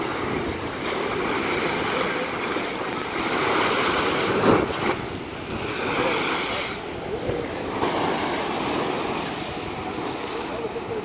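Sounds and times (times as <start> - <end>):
waves breaking against seawall: 0.0 - 11.0.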